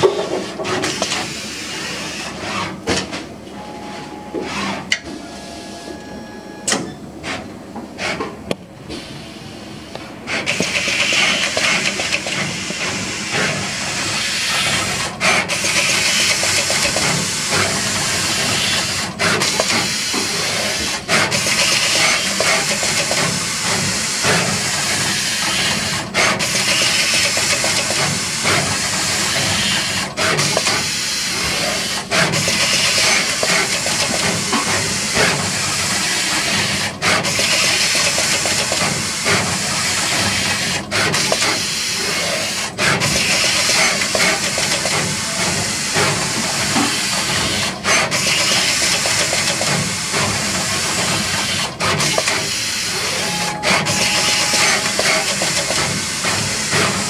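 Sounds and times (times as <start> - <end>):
mechanical noise: 0.0 - 57.0.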